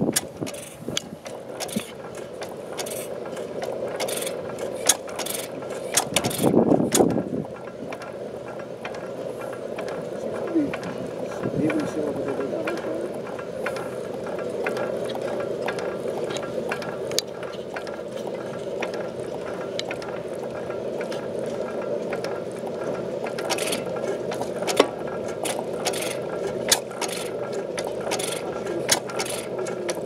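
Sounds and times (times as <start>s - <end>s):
oil engine clattering: 0.0s - 30.0s.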